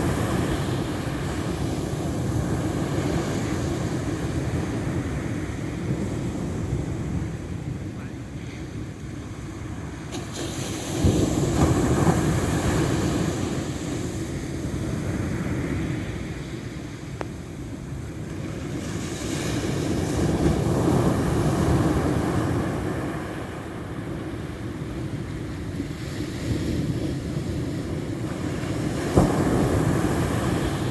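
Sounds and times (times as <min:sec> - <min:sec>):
ocean waves washing in: 0:00.0 - 0:30.9.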